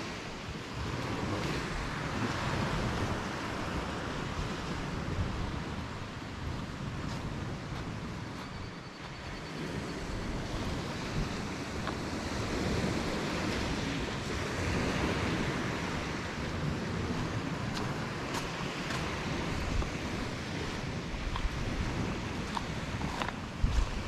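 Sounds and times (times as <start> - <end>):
small waves on a beach: 0.0 - 24.0
wind buffeting microphone: 0.0 - 24.0.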